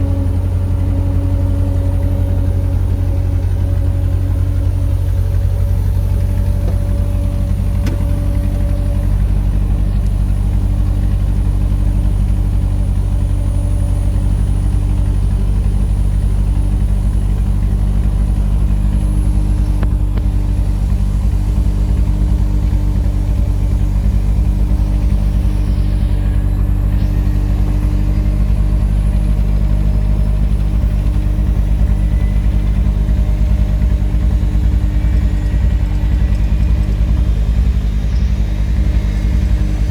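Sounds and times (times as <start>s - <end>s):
low engine hum: 0.0s - 39.9s
thin high whine: 0.0s - 39.9s.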